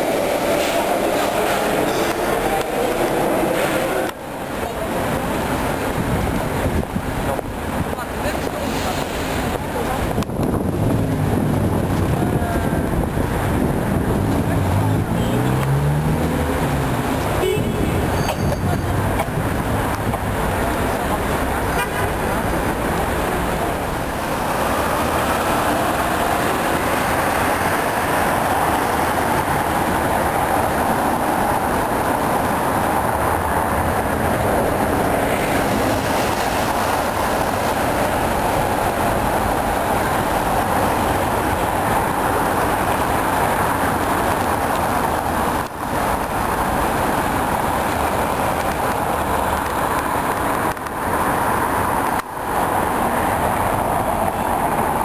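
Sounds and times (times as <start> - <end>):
city traffic roar: 0.0 - 55.0.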